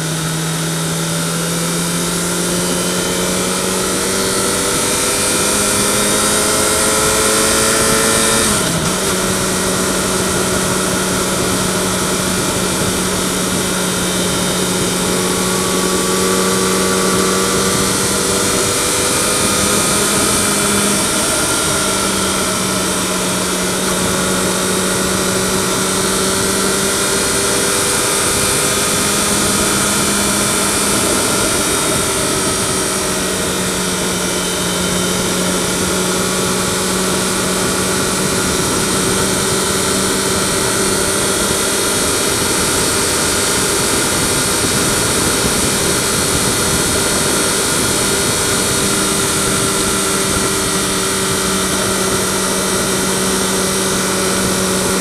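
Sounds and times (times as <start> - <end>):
motorcycle engine cruising: 0.0 - 55.0
wind noise: 2.0 - 55.0.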